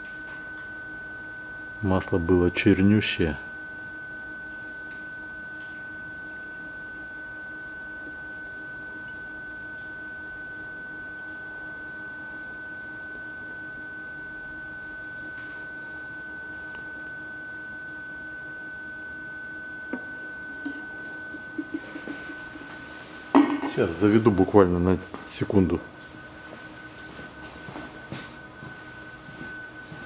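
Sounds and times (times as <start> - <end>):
faint low hum: 0.0 - 30.0
high-pitched whine: 0.0 - 30.0.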